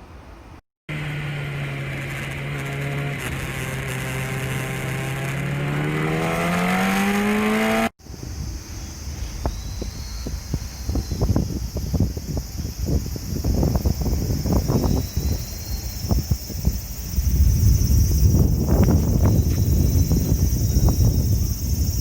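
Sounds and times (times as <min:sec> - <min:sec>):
vehicle motor hum: 0:00.0 - 0:08.2, 0:08.8 - 0:22.0.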